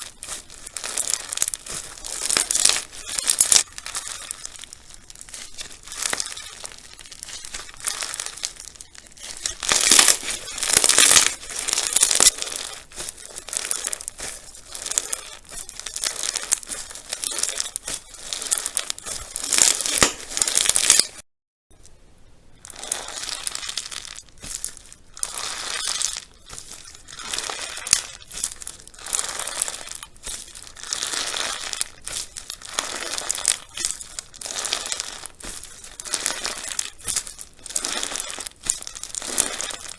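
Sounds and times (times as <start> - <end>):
slime crackling and popping: 0.0 - 21.2, 22.6 - 39.9.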